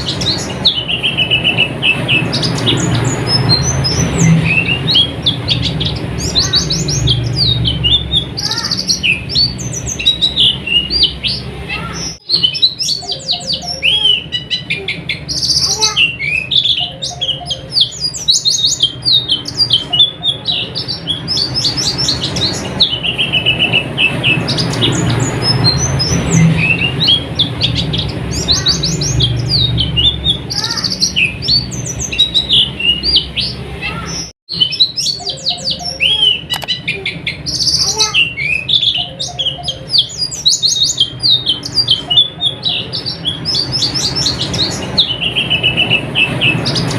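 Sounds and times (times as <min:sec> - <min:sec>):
birds twittering: 0:00.0 - 0:46.9.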